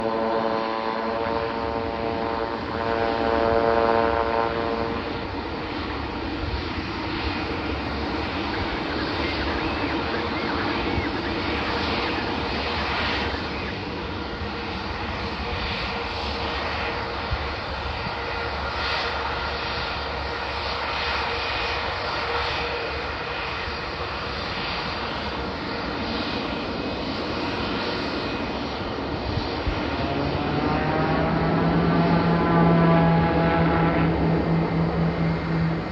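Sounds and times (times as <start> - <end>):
turboprop engines running: 0.0 - 35.9.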